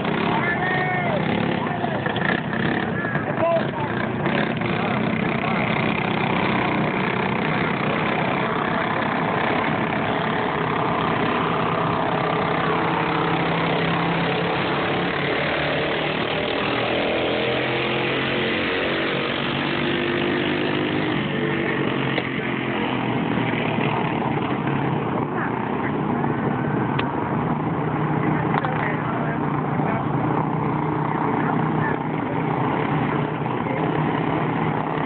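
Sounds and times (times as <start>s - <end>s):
go-kart engines revving: 0.0s - 35.0s.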